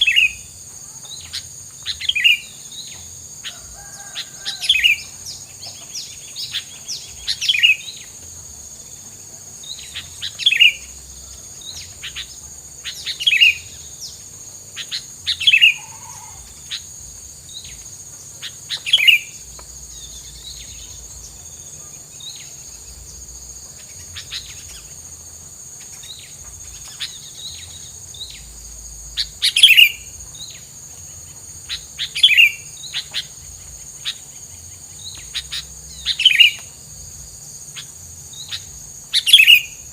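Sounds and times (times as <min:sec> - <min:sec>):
high insect-like whine: 0:00.0 - 0:39.9.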